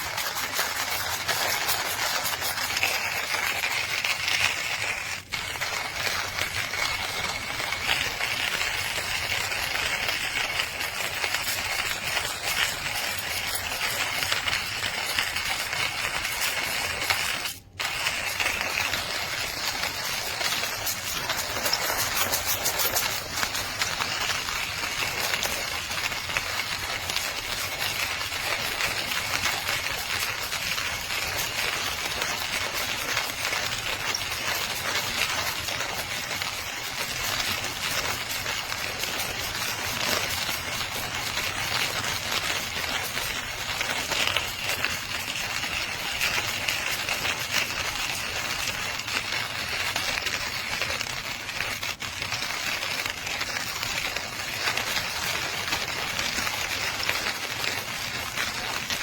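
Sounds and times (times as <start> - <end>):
coffee beans crunching in grinder: 0.0 - 59.0.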